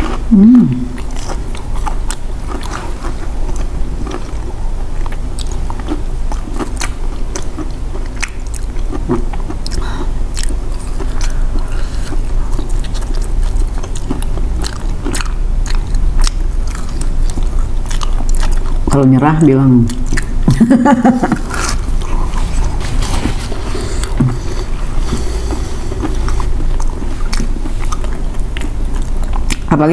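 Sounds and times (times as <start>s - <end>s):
chewing and biting food: 0.0s - 19.0s, 19.6s - 29.7s.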